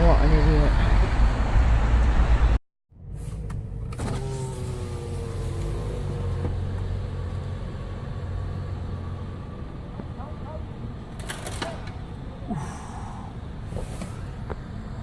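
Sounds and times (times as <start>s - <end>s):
car traffic rumbling by: 0.0s - 15.0s.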